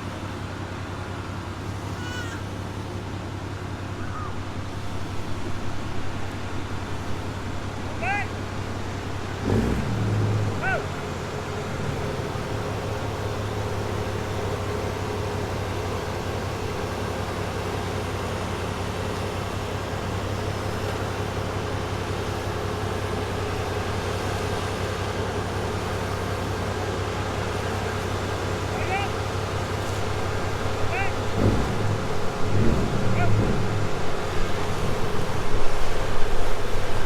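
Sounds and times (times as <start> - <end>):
motor running steadily: 0.0 - 37.0.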